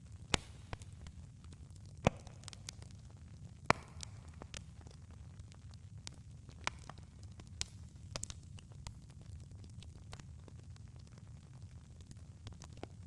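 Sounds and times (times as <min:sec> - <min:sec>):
campfire rumble: 0:00.0 - 0:13.0
fire crackling and popping: 0:00.0 - 0:13.0.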